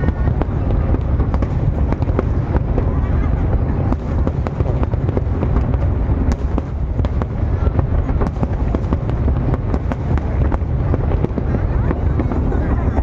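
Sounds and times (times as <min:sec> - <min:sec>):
firework cracks and pops: 0:00.0 - 0:13.0
low rumble of fireworks: 0:00.0 - 0:13.0.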